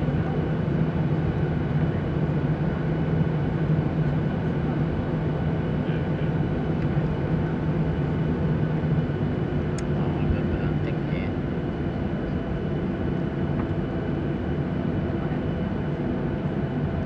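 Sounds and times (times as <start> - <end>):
jet engine drone in cabin: 0.0 - 17.0.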